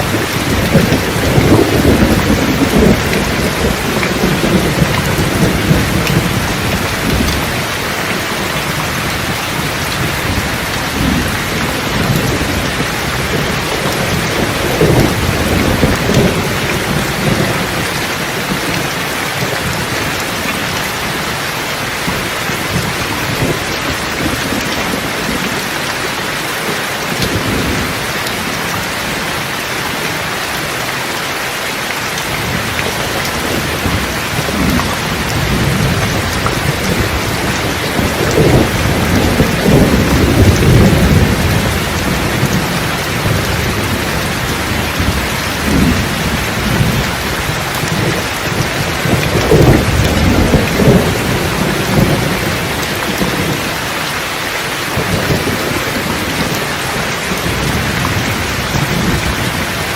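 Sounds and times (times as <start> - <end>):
thunder rumbling: 0.0 - 26.4, 27.1 - 29.5, 32.2 - 59.9
heavy rain hissing: 0.0 - 59.9.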